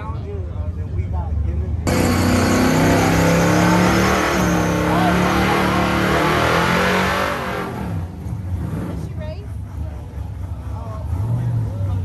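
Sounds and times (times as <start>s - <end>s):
race engine accelerating hard: 1.9s - 12.0s.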